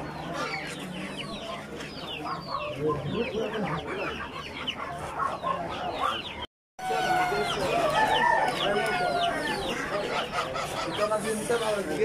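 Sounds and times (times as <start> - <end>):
birds chirping: 0.0 - 12.0
chickens clucking: 0.0 - 12.0.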